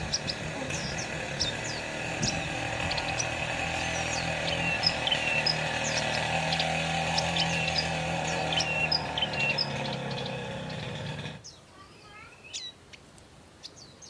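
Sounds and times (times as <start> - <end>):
steady low hum: 0.0 - 11.5
bird chirping: 0.0 - 14.0.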